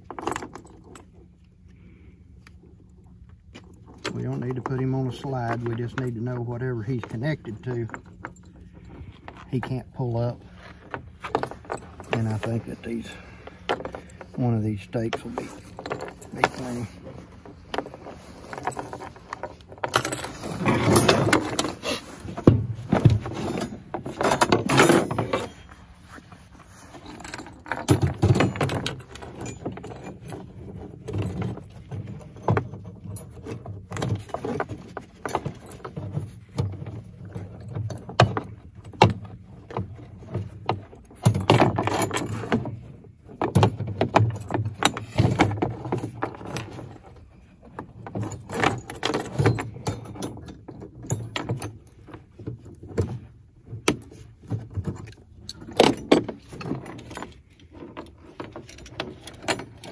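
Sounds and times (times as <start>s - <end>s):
chain and wire clinking on metal: 0.0s - 59.9s.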